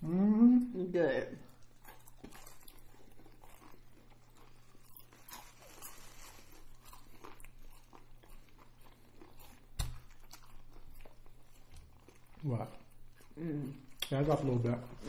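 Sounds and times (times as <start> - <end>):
people chewing crunchy food: 1.2 - 15.0.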